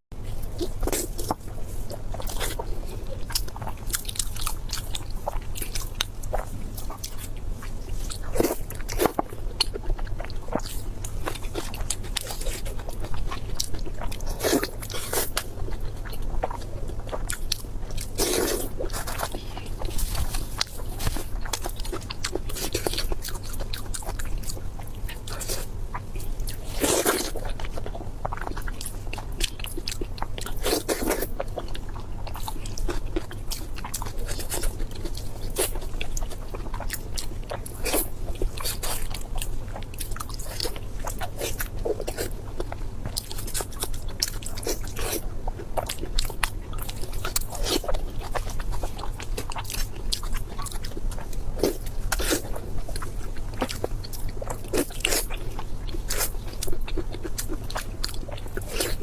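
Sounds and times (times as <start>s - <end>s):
person chewing crunchy food: 0.2s - 59.0s
steady low hum: 0.2s - 59.0s.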